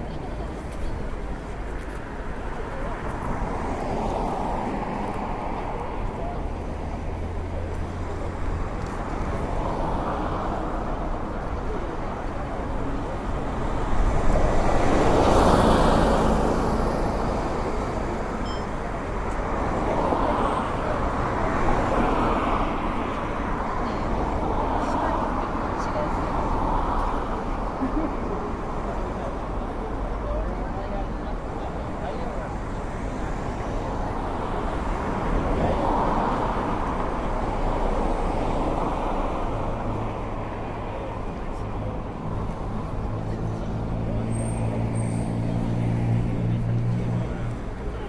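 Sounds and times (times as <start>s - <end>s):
cars passing: 0.0s - 48.0s
shopping street ambience: 0.0s - 48.0s.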